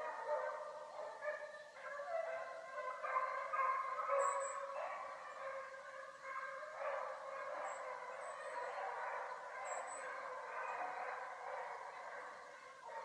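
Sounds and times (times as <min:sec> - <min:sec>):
beagles baying in chorus: 0:00.0 - 0:13.0.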